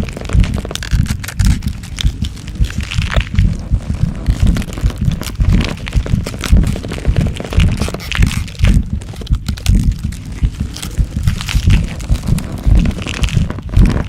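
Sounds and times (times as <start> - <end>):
crackling and crunching: 0.0 - 14.0
deep thumps: 0.0 - 14.0.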